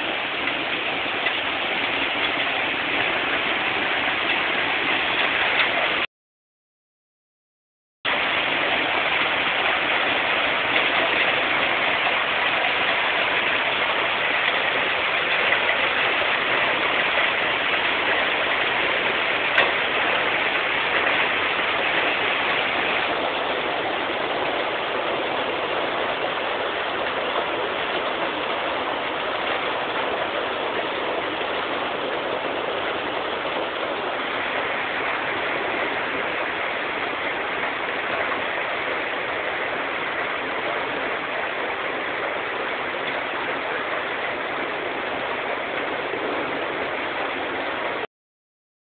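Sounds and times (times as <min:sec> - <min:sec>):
heavy hail and rain: 0:00.0 - 0:06.1, 0:08.1 - 0:48.1.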